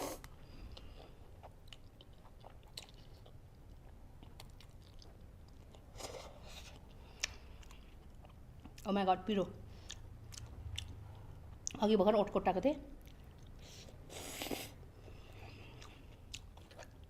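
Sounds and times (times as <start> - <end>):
person chewing food: 0.0 - 8.9, 9.7 - 11.8, 13.0 - 17.0.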